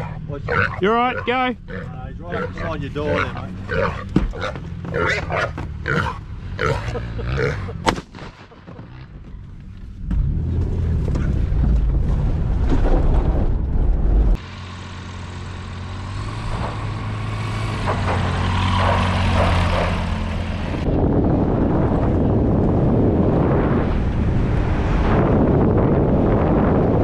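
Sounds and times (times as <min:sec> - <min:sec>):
low engine hum: 0:00.0 - 0:27.0
road and wind noise: 0:00.0 - 0:27.0.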